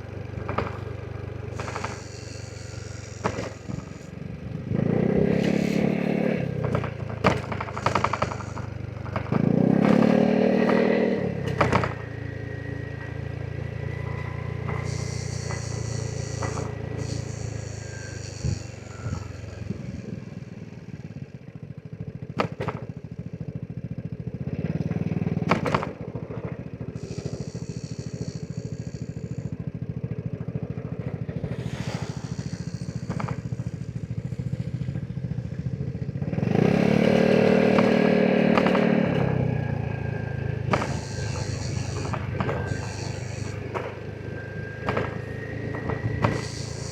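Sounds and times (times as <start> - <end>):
scooter engine running: 0.0 - 46.9.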